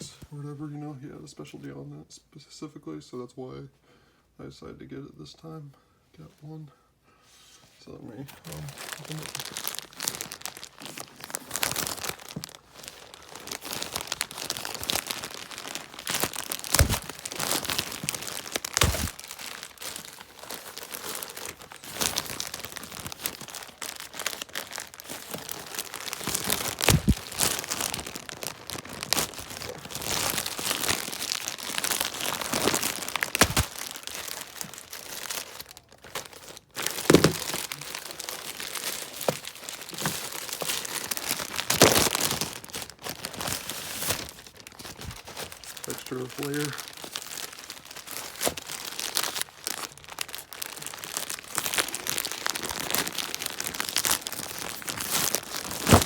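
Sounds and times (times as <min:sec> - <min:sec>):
packaging crackling and tearing: 0:08.4 - 0:56.0.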